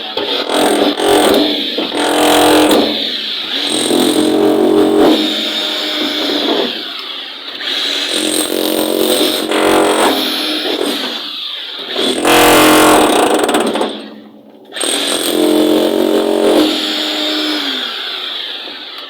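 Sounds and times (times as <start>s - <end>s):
jackhammer hammering: 0.1s - 19.0s.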